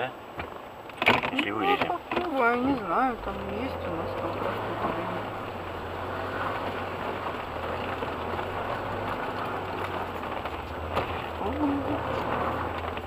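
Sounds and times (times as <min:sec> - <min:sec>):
steady wet hiss: 0:01.6 - 0:13.0
engine running at low revs: 0:02.4 - 0:13.0.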